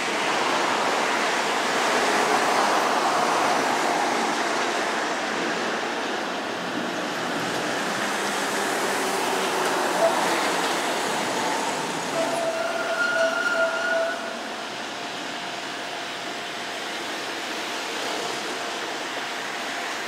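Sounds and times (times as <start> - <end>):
diesel railcar rumble: 0.0 - 20.0.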